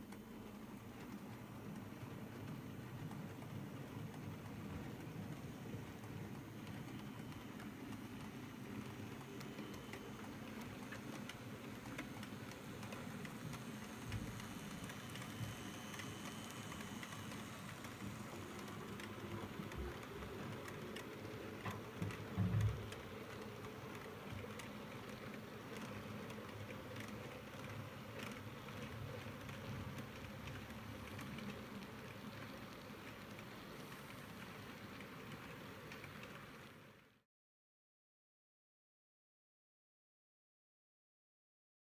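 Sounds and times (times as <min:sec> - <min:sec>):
model train motor and wheels rumbling: 0:00.0 - 0:37.0.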